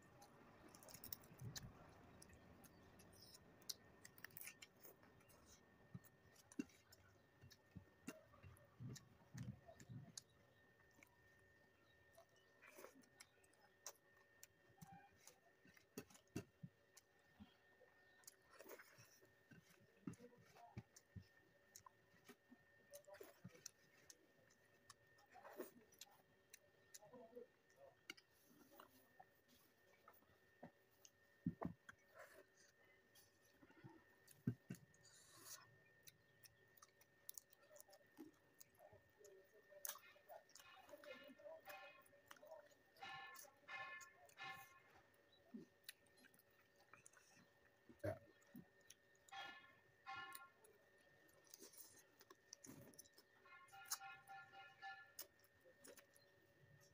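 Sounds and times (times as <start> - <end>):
soft chewing: 0.0 - 56.9.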